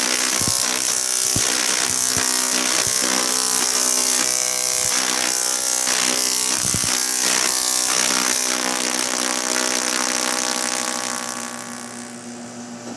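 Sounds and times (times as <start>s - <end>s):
tesla coil sparks buzzing: 0.0s - 12.5s.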